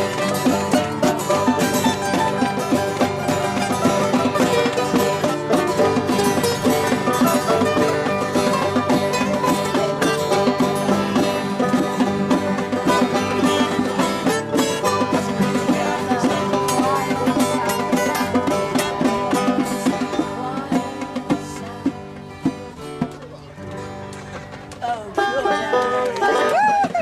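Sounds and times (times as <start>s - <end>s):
acoustic band playing: 0.0s - 27.0s.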